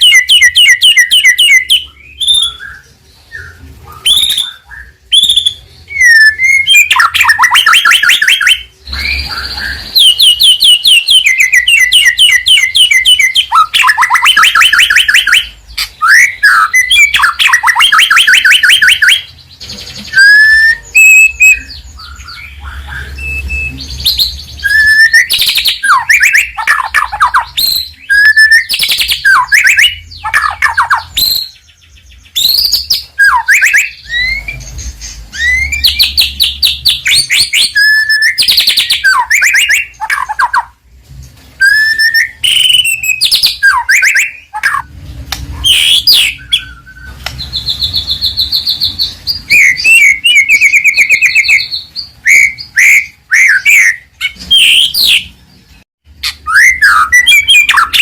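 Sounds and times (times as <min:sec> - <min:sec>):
bird whistled song with trills: 0:00.0 - 0:40.8, 0:41.5 - 0:58.0.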